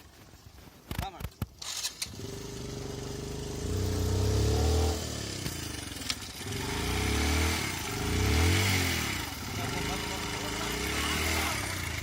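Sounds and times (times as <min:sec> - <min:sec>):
motorcycle engine revving: 0:01.4 - 0:12.0.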